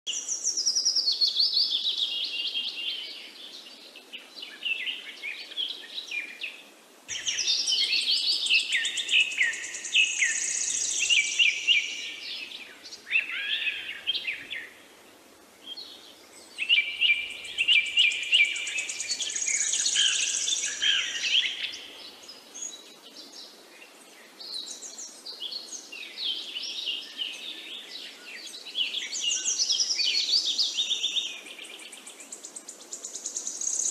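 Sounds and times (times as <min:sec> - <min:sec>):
birds chirping and warbling: 0:00.1 - 0:14.9, 0:15.6 - 0:33.9.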